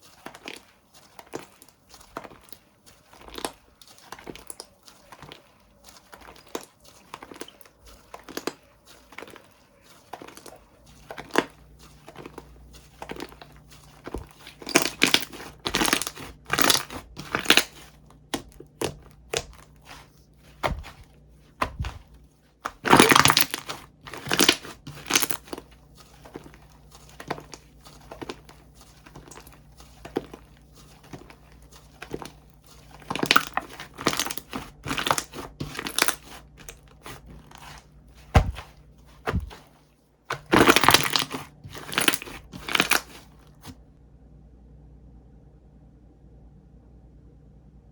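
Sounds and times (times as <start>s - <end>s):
slime squished by hand: 0.0s - 43.8s.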